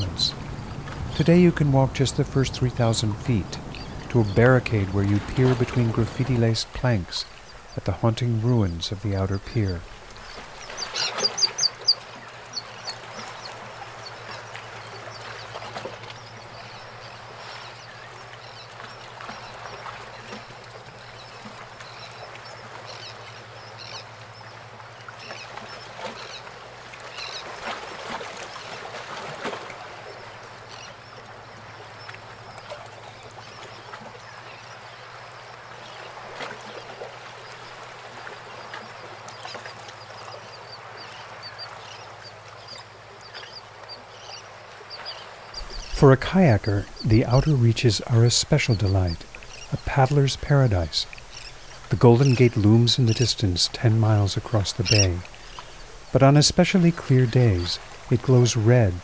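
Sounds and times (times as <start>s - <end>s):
faint bird calls: 0.0s - 26.5s, 30.1s - 59.0s
water lapping around pilings: 0.0s - 59.0s.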